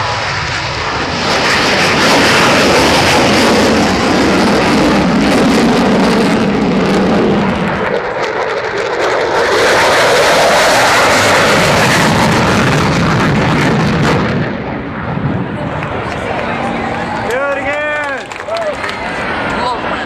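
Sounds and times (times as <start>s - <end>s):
jet aircraft flying over: 0.0s - 20.0s.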